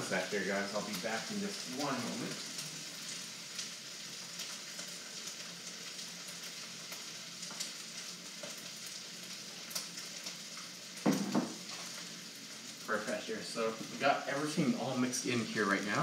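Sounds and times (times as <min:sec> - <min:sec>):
rice sizzling in a wok: 0:00.0 - 0:16.0.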